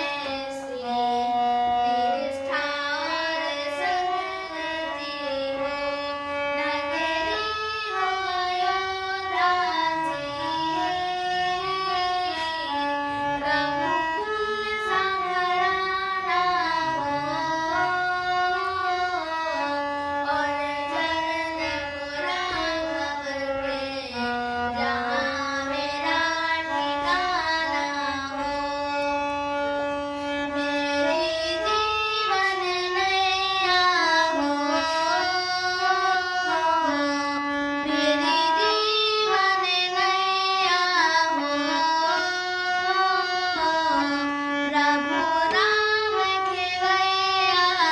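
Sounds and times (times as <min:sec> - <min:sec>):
devotional song with instruments: 0:00.0 - 0:47.9.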